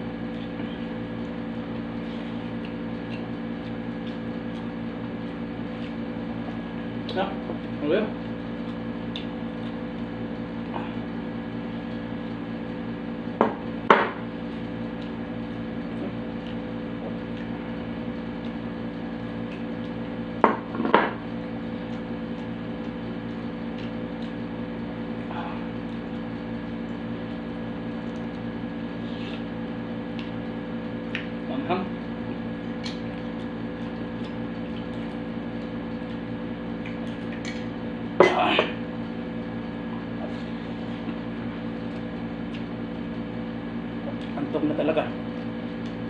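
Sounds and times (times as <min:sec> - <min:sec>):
steady machine hum: 0:00.0 - 0:46.0.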